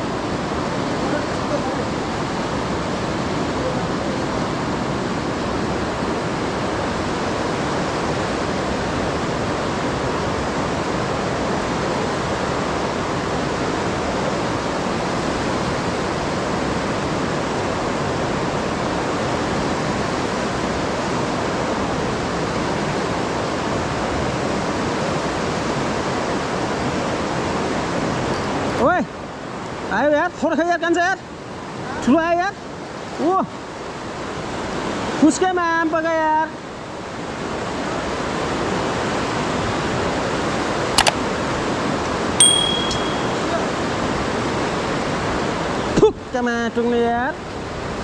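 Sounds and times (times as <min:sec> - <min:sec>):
river rushing through gorge: 0:00.0 - 0:48.0.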